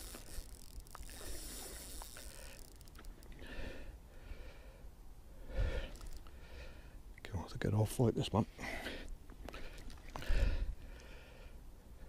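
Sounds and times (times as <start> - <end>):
man breathing and sniffing: 0.0 - 7.0, 8.6 - 11.6.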